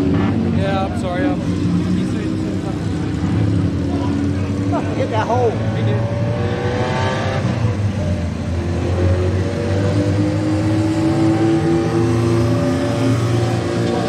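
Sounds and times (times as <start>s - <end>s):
vehicle engines running: 0.0s - 14.0s.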